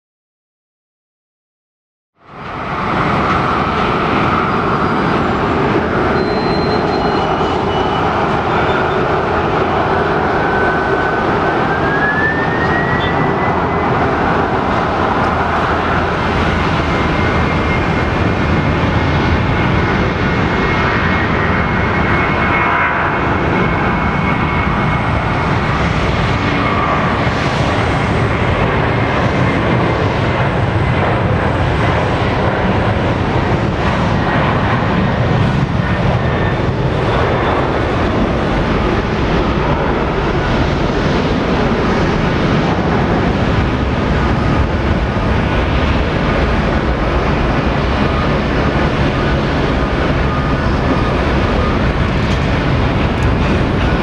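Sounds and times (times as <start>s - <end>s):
jet engines roaring: 2.2s - 54.0s.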